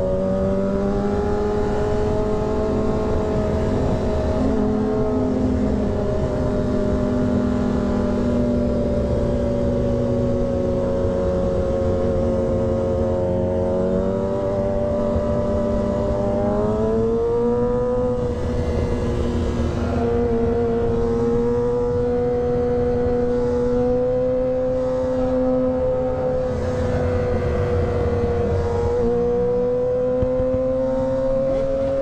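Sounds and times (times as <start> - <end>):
high-revving vehicle engine: 0.0 - 32.0.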